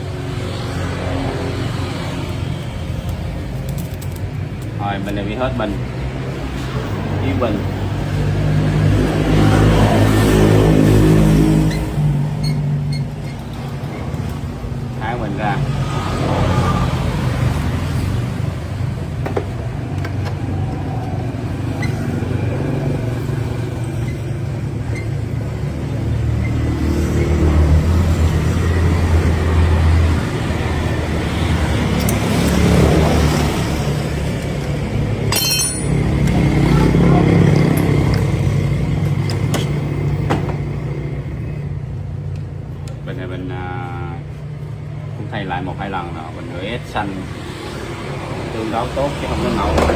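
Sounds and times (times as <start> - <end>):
vehicle engines rumbling: 0.0 - 49.9.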